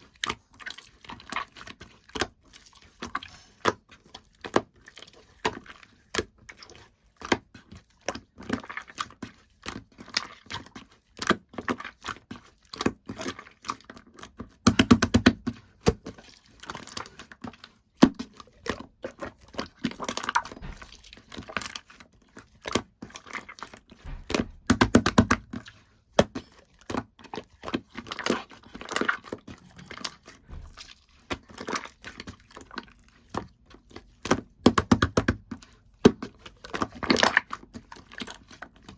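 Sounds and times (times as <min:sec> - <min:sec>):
slime squishing and popping: 0:00.2 - 0:38.9.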